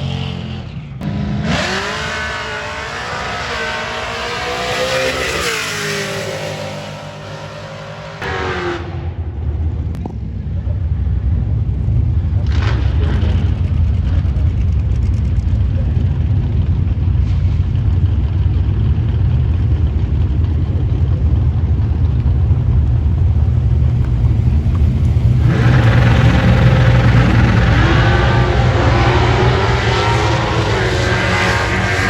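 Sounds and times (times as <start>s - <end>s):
car engine rumbling and revving: 0.0s - 32.0s.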